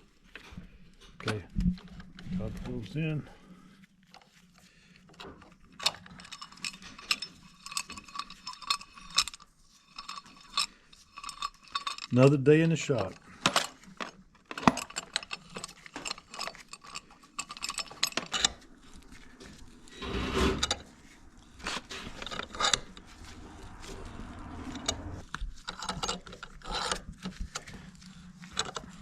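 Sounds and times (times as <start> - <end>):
metal tools clicking and clinking: 5.1 - 29.0
metal clatter: 5.2 - 29.0.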